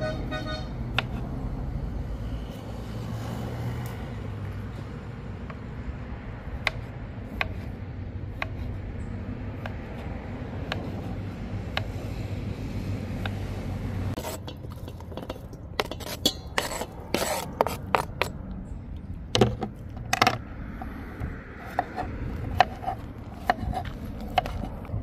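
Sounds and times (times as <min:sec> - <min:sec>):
low vehicle engine rumble: 0:00.0 - 0:25.0.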